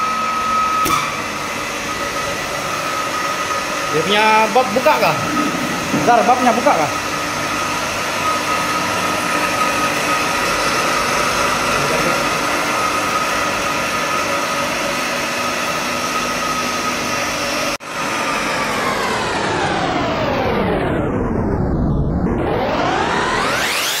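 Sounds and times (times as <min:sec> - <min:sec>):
electric motor and pump humming: 0:00.0 - 0:21.6.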